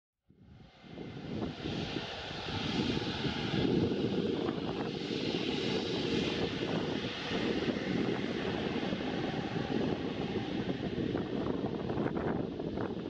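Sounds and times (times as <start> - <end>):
jet engines rumbling with hiss: 0.6 - 13.0.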